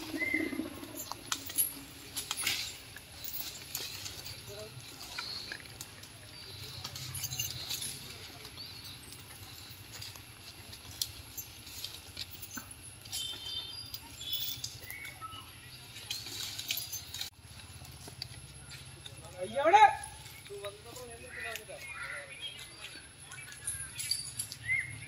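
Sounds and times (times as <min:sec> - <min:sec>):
chains clinking: 0:00.0 - 0:25.0
elephant walking on dry leaves: 0:00.0 - 0:25.0.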